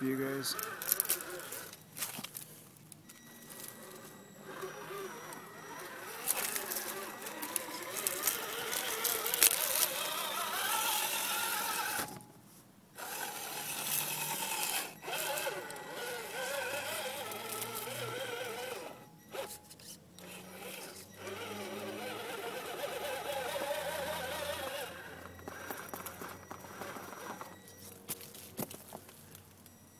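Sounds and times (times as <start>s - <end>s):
toy car motor whining: 0.0s - 2.4s, 3.0s - 12.2s, 13.0s - 28.2s.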